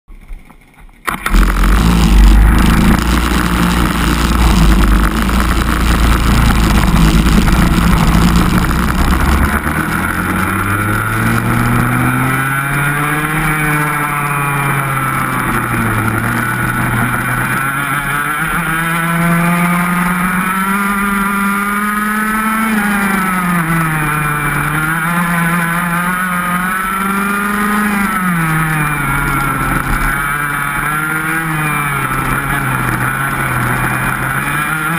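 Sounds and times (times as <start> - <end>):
kart engine revving: 0.2 - 34.9.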